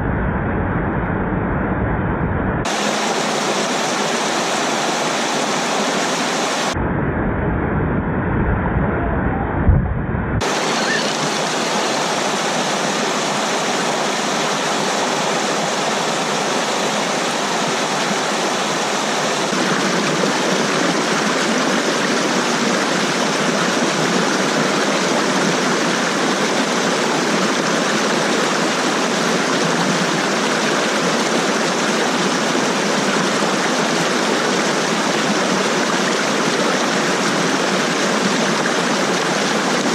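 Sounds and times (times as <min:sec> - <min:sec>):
waterfall stream rushing: 0:02.7 - 0:06.8, 0:10.4 - 0:39.9.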